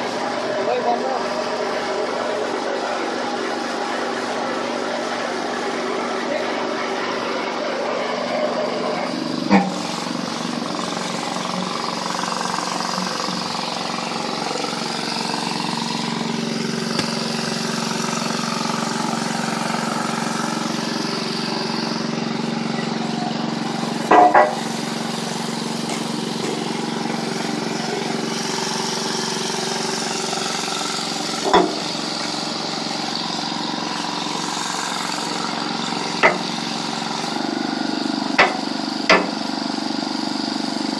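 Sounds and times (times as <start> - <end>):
machine humming: 6.8 - 39.8.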